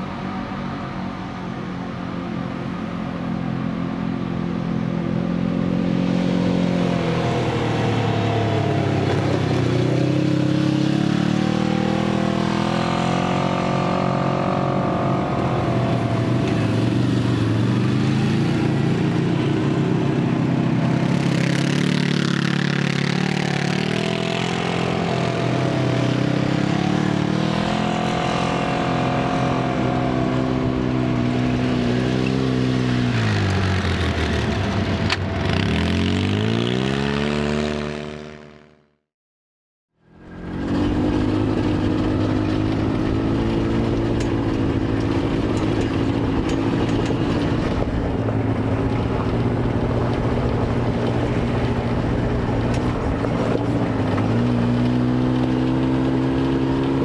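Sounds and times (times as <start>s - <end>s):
off-road vehicle engine revving: 3.6s - 38.8s, 40.2s - 57.0s.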